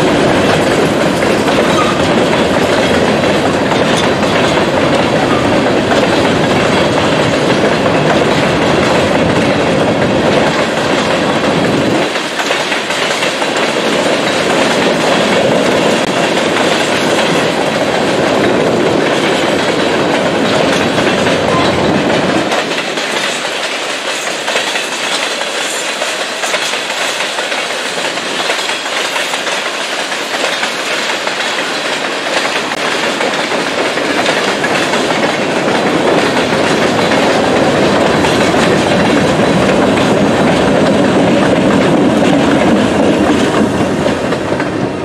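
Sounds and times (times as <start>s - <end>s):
diesel locomotives passing: 0.0s - 45.0s
train wheels clacking over rail joints: 0.0s - 45.0s.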